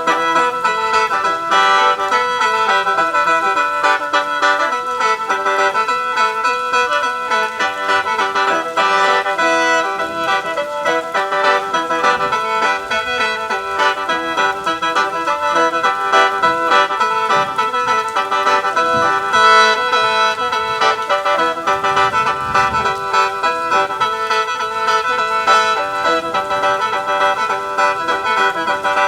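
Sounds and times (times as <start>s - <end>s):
mouth organ melody over drone: 0.0s - 29.0s.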